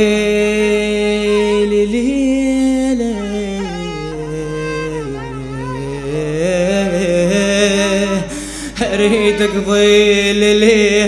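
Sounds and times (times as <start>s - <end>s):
man singing long lament note: 0.0s - 11.0s.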